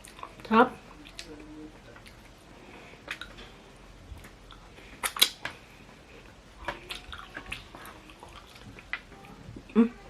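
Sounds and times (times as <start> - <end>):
quiet chewing: 0.0 - 3.5, 4.1 - 10.0.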